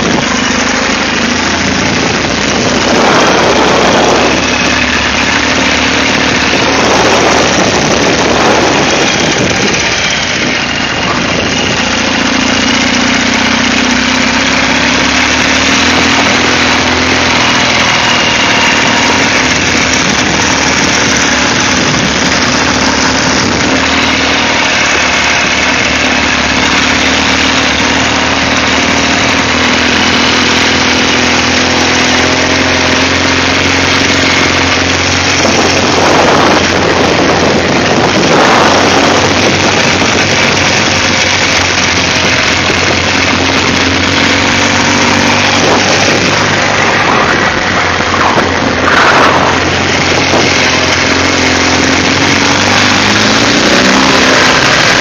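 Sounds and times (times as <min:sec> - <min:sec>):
motorcycle engine running: 0:00.0 - 0:55.0
rush of noise: 0:00.0 - 0:55.0.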